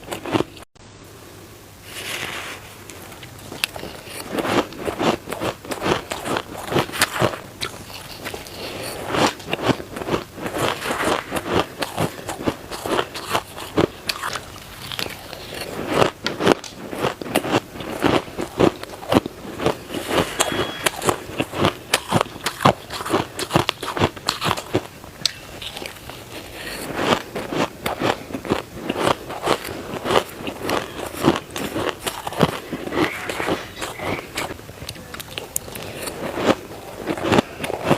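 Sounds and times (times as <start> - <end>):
ice being chewed crunching: 3.5 - 37.9.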